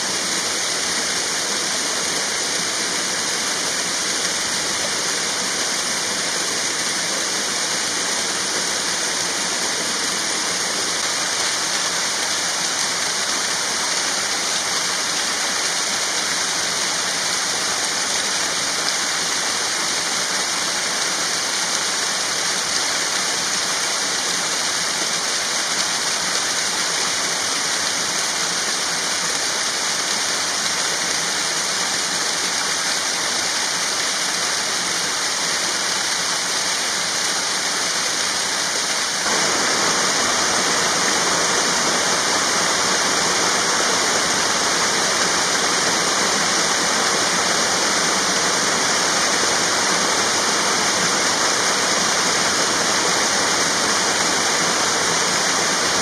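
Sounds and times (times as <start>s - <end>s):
stream cascading over rocks: 0.0s - 56.0s
waterfall: 0.0s - 56.0s.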